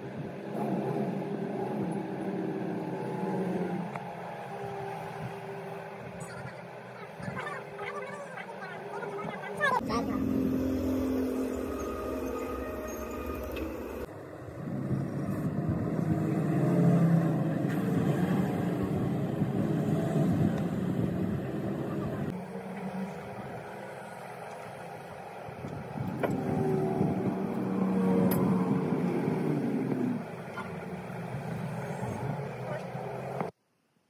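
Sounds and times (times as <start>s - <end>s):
vehicles passing: 0.0s - 33.6s.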